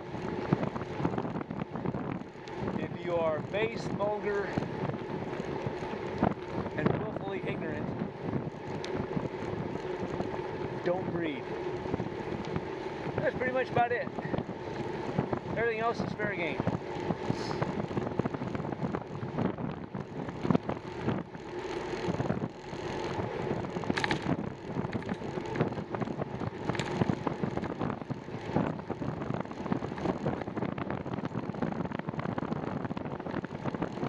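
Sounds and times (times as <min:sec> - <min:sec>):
bicycle tyre and drivetrain noise: 0:00.0 - 0:34.0
wind buffeting microphone: 0:00.0 - 0:34.0
small clicks and rattles: 0:00.4 - 0:34.0.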